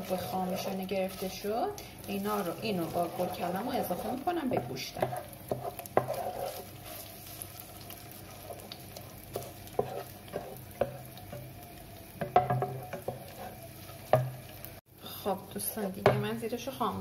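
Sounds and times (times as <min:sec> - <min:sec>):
wooden spatula scraping a pan: 0:00.0 - 0:11.6, 0:12.2 - 0:14.6, 0:15.5 - 0:16.4
tomato paste sizzling in oil: 0:00.0 - 0:17.0.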